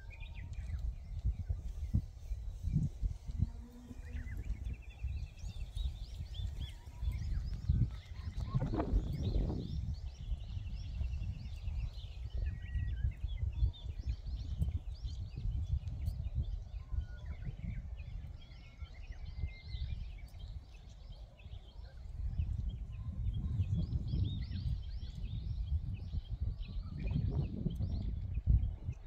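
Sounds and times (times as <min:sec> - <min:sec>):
small birds chirping and trilling: 0:00.0 - 0:29.0
wind buffeting microphone: 0:00.0 - 0:29.0.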